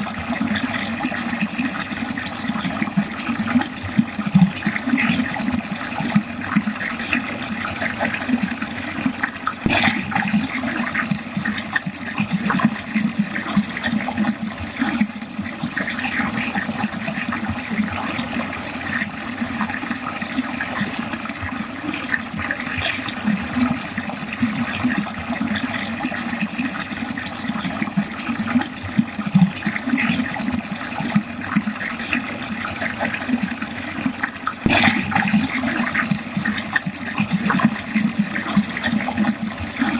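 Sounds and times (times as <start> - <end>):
small water splashes: 0.0 - 39.9
water gurgling down a drain: 0.0 - 39.9.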